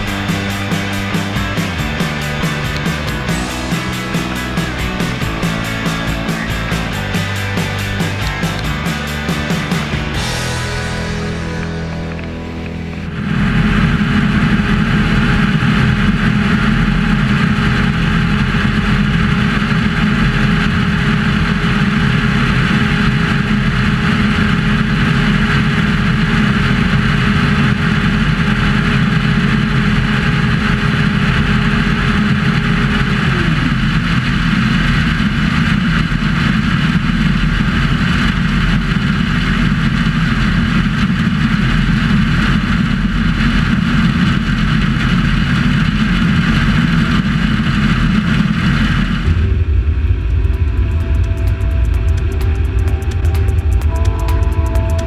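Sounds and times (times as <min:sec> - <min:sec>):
combine harvester running: 0:00.0 - 0:55.0
machine whine: 0:00.0 - 0:55.0.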